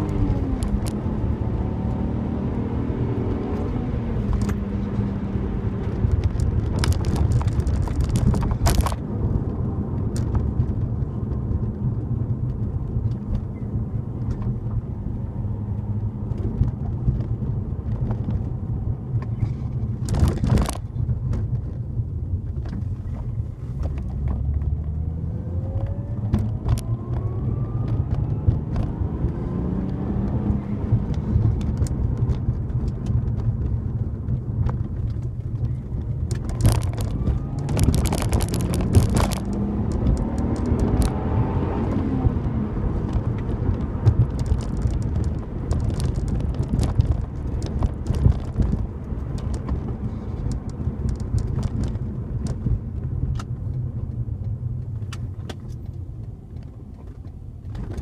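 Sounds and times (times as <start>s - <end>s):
car engine accelerating: 0.0s - 58.0s
road noise rumble: 0.0s - 58.0s.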